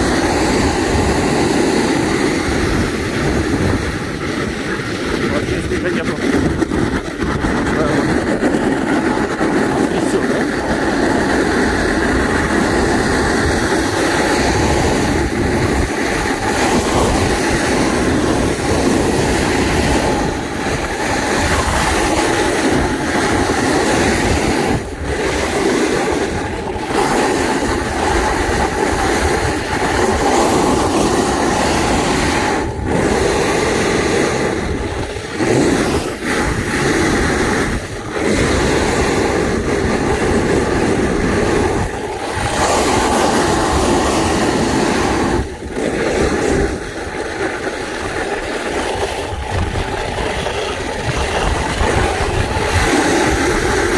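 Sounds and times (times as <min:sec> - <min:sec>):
snowboard scraping on hard snow: 0:00.0 - 0:53.9
wind rushing over microphone: 0:00.0 - 0:53.9.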